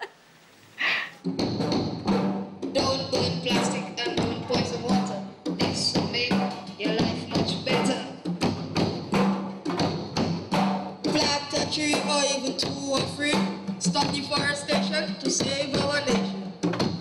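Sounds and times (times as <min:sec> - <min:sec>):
congas and drum kit: 0:00.8 - 0:17.0.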